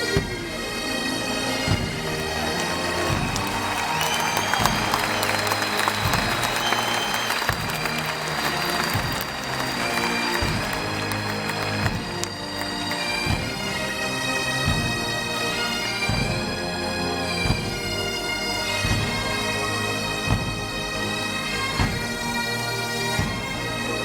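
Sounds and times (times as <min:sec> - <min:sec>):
bagpipes playing a tune: 0:00.0 - 0:24.0.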